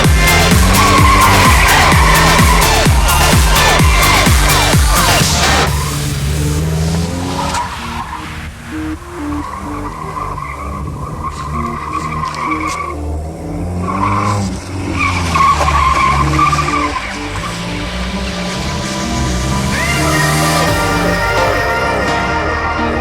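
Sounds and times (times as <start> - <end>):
car engine running: 0.0 - 21.6
tyres squealing and skidding: 0.0 - 23.0.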